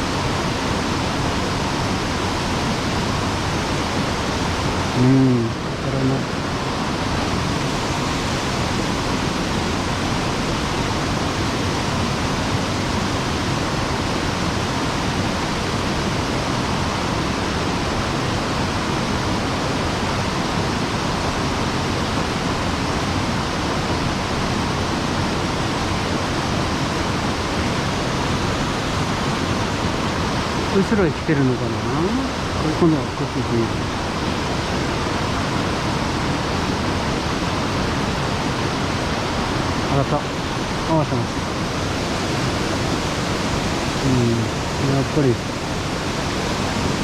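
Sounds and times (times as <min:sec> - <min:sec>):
water rushing over a dam: 0:00.0 - 0:47.0.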